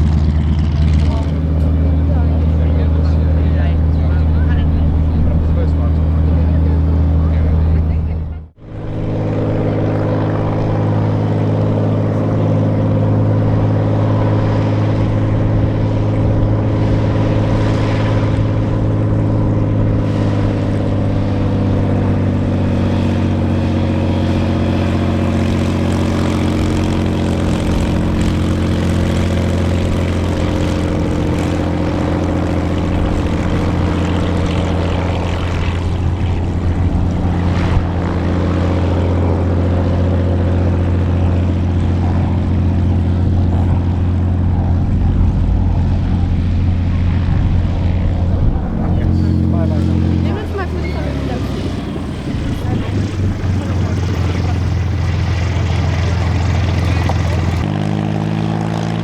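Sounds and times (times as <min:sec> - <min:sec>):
propeller aircraft engine running: 0:00.0 - 0:59.0.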